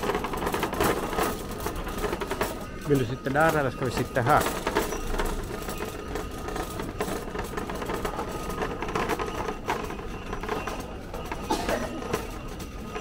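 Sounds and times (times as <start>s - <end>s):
dishes rattling and clinking: 0.0s - 13.0s.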